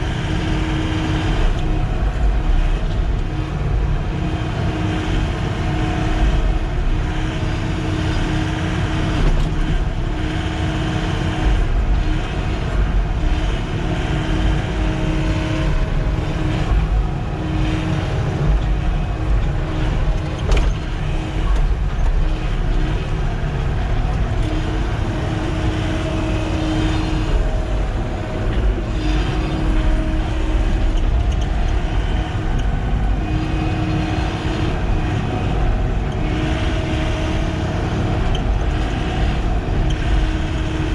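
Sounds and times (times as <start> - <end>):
excavator diesel engine working: 0.0 - 40.9.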